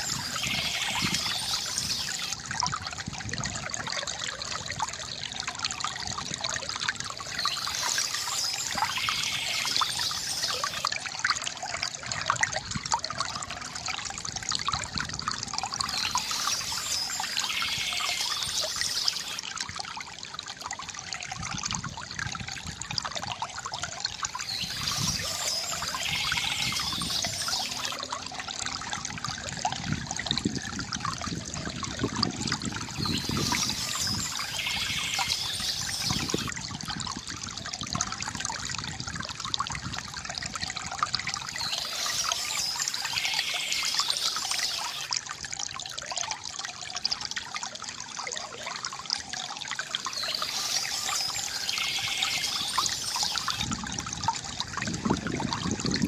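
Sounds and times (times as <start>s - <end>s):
water trickling into basin: 0.0s - 56.0s.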